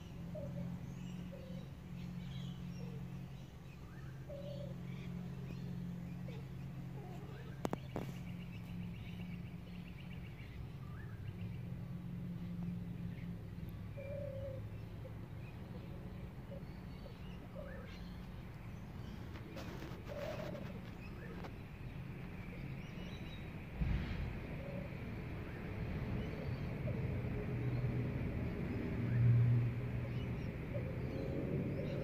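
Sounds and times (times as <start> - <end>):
bird calls and chirps: 0.0 - 27.9, 30.0 - 32.0
steady low hum: 0.0 - 32.0.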